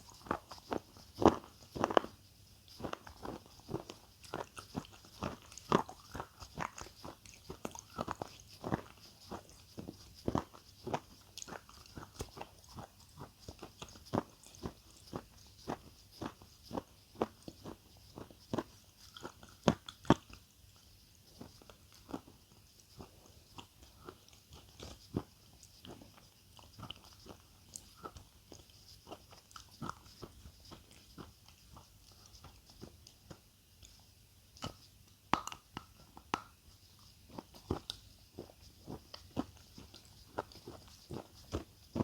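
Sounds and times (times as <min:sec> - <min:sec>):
crunchy food being chewed: 0:00.0 - 0:42.0.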